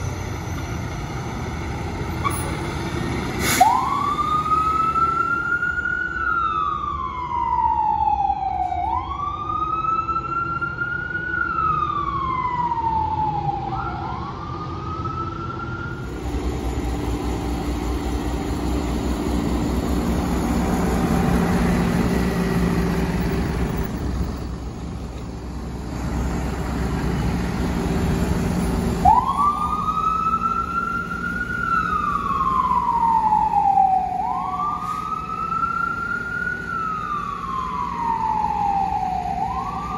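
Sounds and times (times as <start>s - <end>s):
fire engine wail siren: 0.0s - 39.9s
truck engine: 0.0s - 39.9s.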